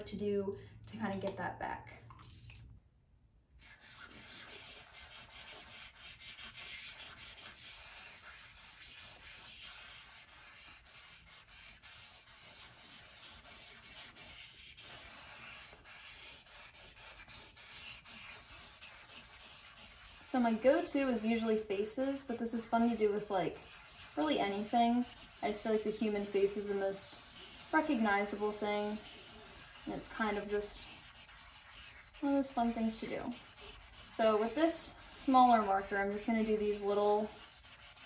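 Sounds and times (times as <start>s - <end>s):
marker scratching on canvas: 3.6s - 38.0s.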